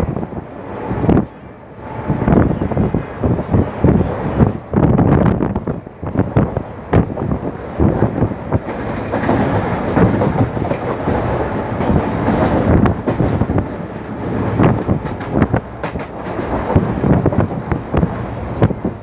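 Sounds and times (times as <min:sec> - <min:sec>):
train rumbling: 0:00.0 - 0:19.0
train wheels clattering: 0:02.1 - 0:19.0.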